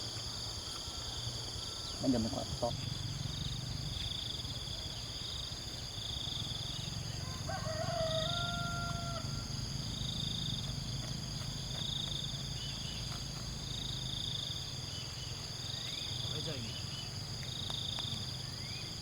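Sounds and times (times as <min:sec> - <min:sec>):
insects whining and chirping: 0:00.0 - 0:19.0.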